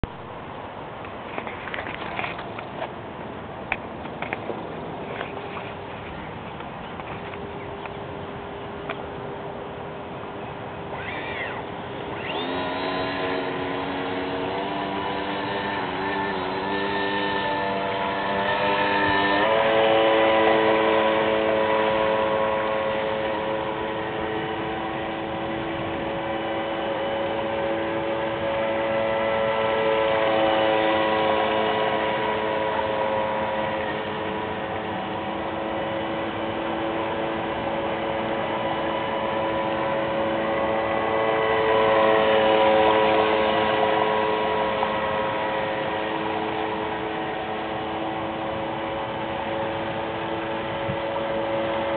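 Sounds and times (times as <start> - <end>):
electric motor high whine: 7.0 - 51.9.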